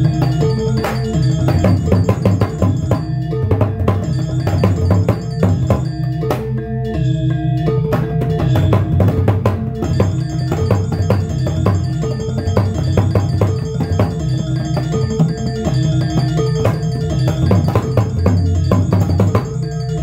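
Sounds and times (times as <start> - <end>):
drum played in fast strokes: 0.0 - 5.9, 8.0 - 19.6
ringing metallophones: 0.0 - 20.0.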